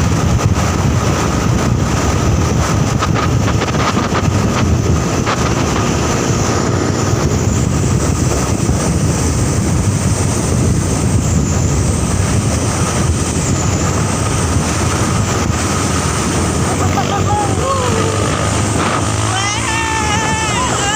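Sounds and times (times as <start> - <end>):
road noise: 0.0 - 20.9
truck engine rumbling: 0.0 - 20.9
wind noise: 0.0 - 20.9.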